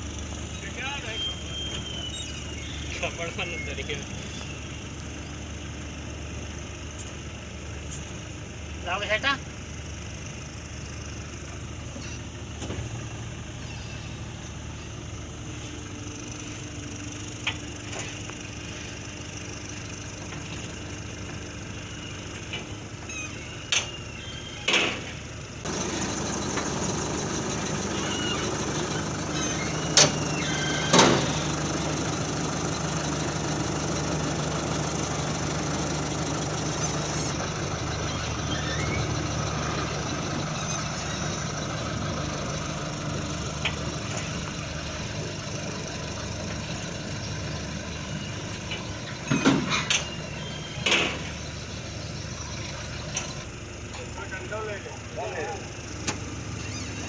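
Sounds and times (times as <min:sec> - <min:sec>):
combine harvester engine idling: 0:00.0 - 0:57.0.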